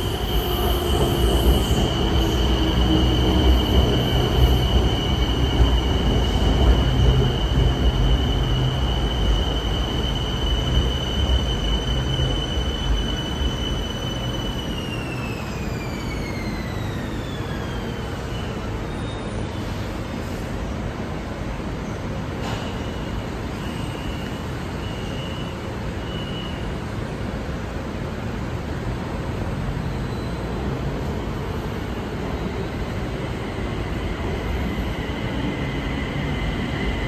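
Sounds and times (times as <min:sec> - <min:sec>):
electric train rumble and whine: 0:00.0 - 0:37.0.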